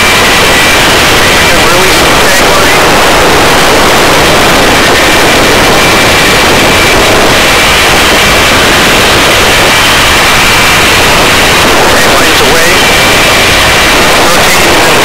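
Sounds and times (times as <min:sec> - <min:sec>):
faint high whine: 0:00.0 - 0:15.0
helicopter rotor and engine noise: 0:00.0 - 0:15.0.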